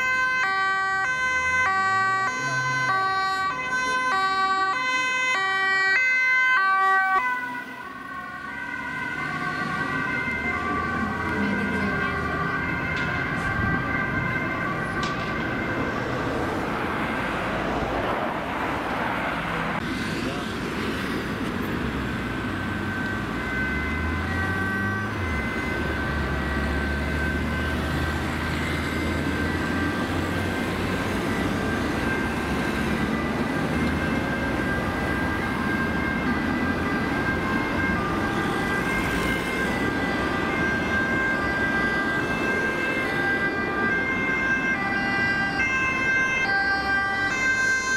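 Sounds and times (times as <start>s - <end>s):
ambulance sirens: 0.0s - 47.9s
road traffic: 0.0s - 47.9s.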